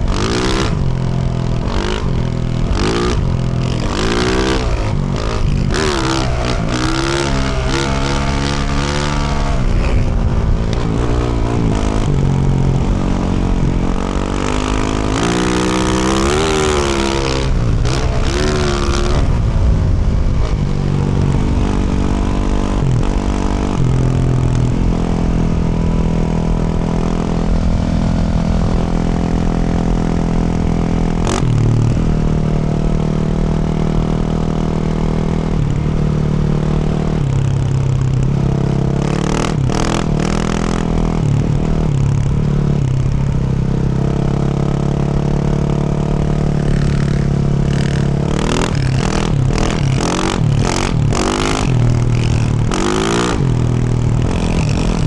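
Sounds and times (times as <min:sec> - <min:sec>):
motorcycle engine running under load: 0:00.0 - 0:55.0.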